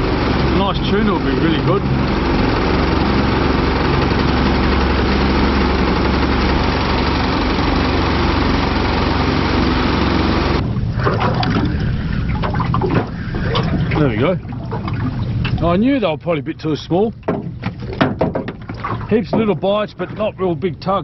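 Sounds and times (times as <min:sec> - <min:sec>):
outboard motor running: 0:00.0 - 0:21.0
wind and water rushing over hull: 0:00.0 - 0:21.0.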